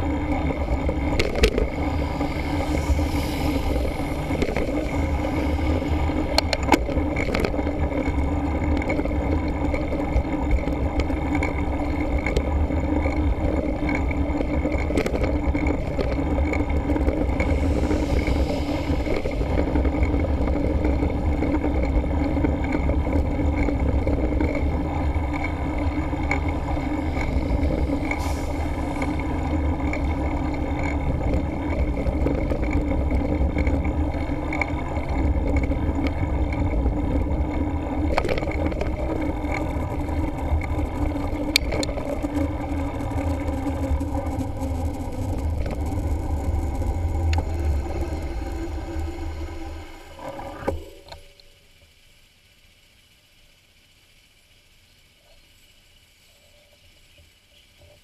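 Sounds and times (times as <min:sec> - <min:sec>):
wind rumble on microphone: 0:00.0 - 0:51.2
bicycle road noise: 0:00.0 - 0:58.0.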